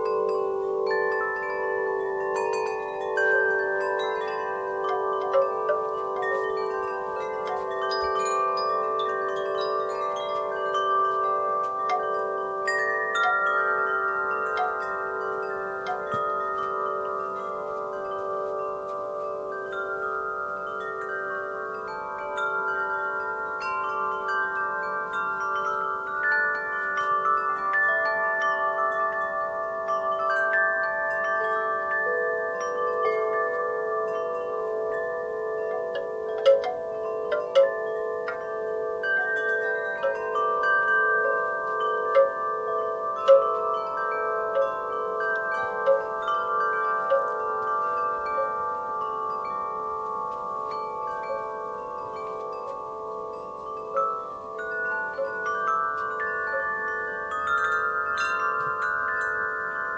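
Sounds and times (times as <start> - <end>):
wind chimes ringing: 0.0 - 59.9.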